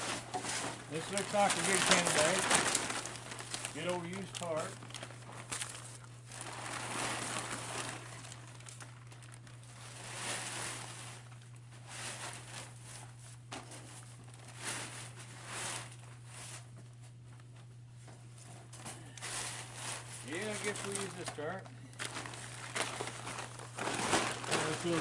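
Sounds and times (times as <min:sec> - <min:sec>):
rustling and crinkling: 0:00.0 - 0:25.0
steady low hum: 0:00.0 - 0:25.0.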